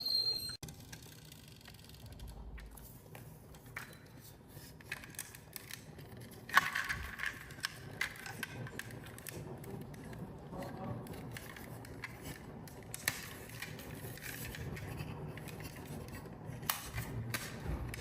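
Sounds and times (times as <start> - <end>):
marbles clicking and rolling on wood: 0.6 - 18.0.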